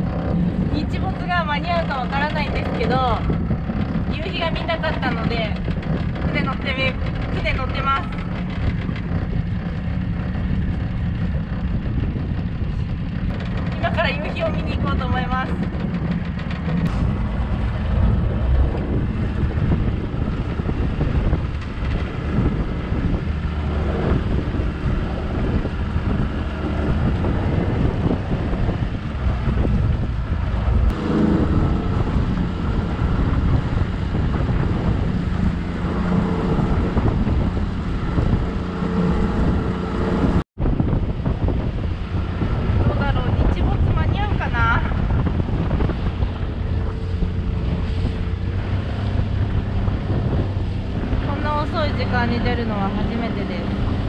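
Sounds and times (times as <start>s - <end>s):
outboard motor running: 0.0s - 54.0s
water rushing against hull: 0.0s - 54.0s
wind buffeting microphone: 0.0s - 54.0s.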